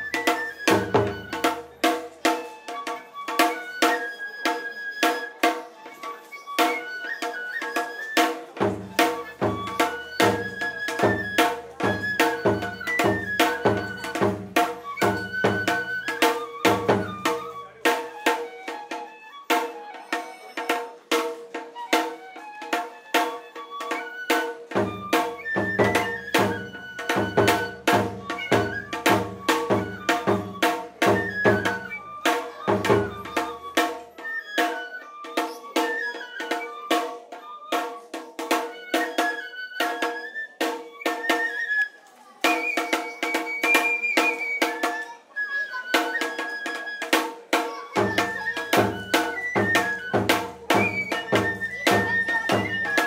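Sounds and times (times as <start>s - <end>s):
bamboo flute melody: 0.0s - 53.0s.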